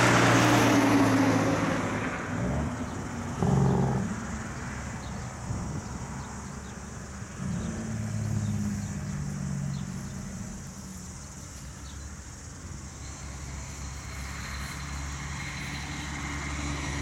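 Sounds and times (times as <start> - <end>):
distant truck engine drone: 0.0 - 17.0.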